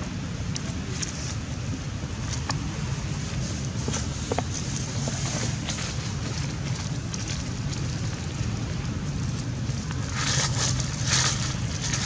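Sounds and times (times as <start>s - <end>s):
steady low rumble: 0.0s - 12.0s
dry leaves rustling and crackling: 0.8s - 12.0s.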